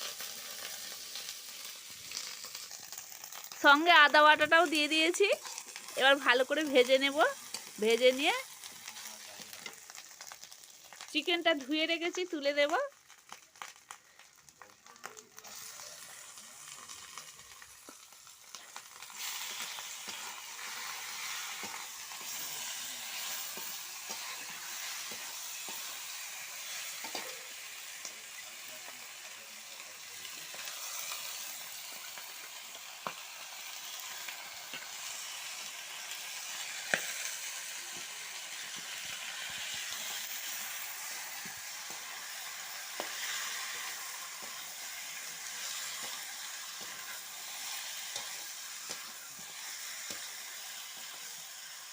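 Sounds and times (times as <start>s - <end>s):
chicken sizzling in oil: 0.0s - 51.9s.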